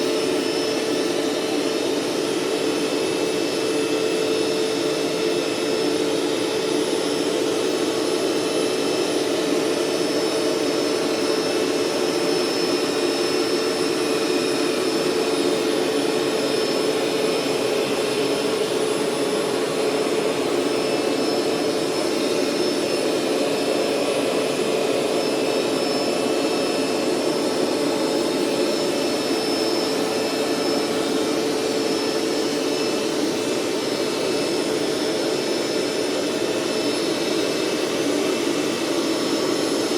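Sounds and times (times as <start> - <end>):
carpet cleaner motor humming: 0.0 - 39.9.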